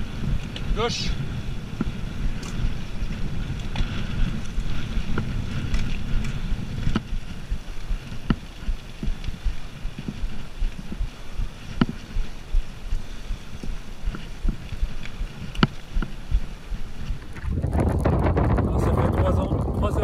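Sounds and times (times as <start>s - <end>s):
bike rattling clicks: 0.0s - 0.8s, 1.5s - 18.6s
tyre noise on tarmac: 0.0s - 20.0s
wind rumble on microphone: 0.0s - 20.0s.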